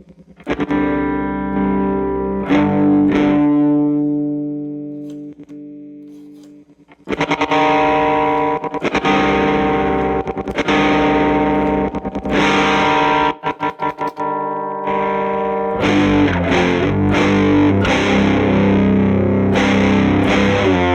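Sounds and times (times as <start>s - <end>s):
distorted electric guitar chords: 0.0s - 20.9s
muted guitar strums: 0.0s - 20.9s.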